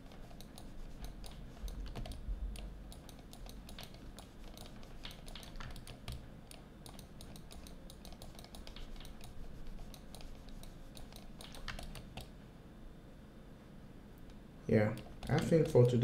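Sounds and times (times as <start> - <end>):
computer keys clicking: 0.0 - 12.3, 14.7 - 16.0.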